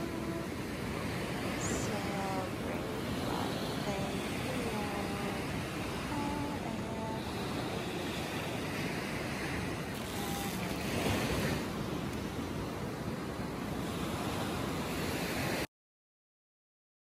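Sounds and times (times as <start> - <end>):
surf washing onto beach: 0.0 - 15.7
wind on microphone: 0.0 - 15.7.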